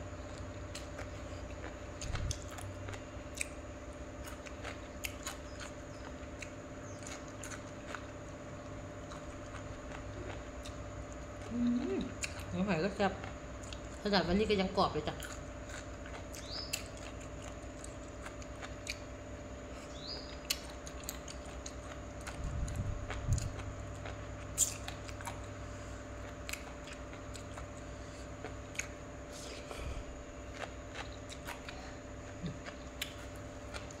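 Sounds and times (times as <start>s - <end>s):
steady low hum: 0.0s - 34.0s
quiet chewing with wet clicks: 0.2s - 14.1s, 15.1s - 29.1s, 30.4s - 34.0s.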